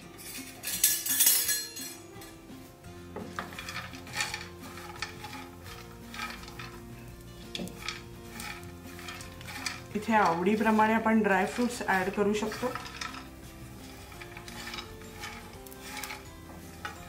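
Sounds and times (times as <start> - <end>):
soft background music: 0.0 - 17.0
spatula scraping nuts in a pan: 3.0 - 17.0.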